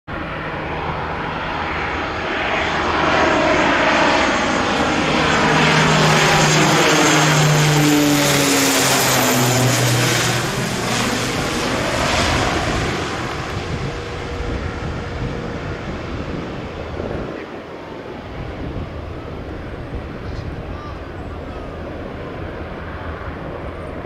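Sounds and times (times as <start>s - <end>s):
propeller aircraft passing overhead: 0.1s - 24.0s.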